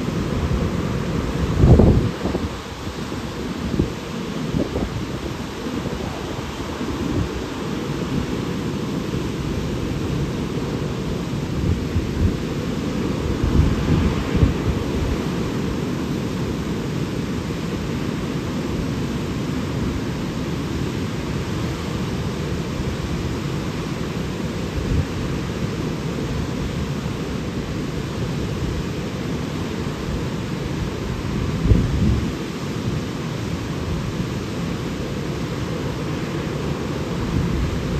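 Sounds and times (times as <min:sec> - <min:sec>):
waterfall rushing: 0:00.0 - 0:37.9
wind rumble on microphone: 0:00.0 - 0:37.9.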